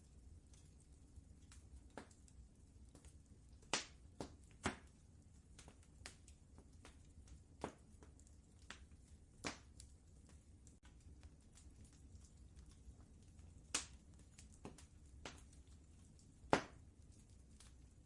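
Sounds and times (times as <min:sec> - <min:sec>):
faint low rumble: 0:00.0 - 0:18.0
fireplace fire crackling: 0:00.0 - 0:18.0.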